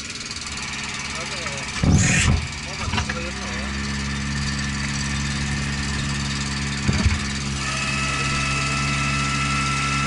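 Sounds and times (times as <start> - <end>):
small engine idling: 0.0 - 10.0
thin high whine: 0.0 - 10.0.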